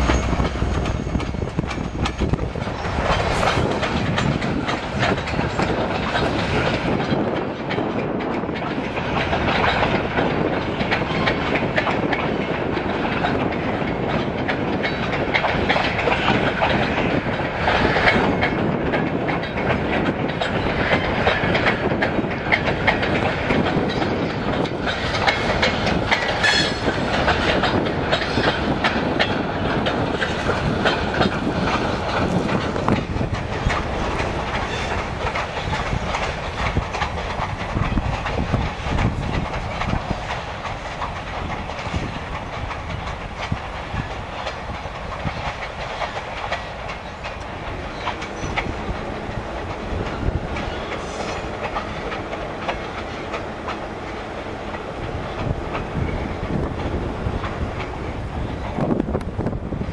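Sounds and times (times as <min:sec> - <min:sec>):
freight train wheels clickety-clack: 0:00.0 - 0:59.9.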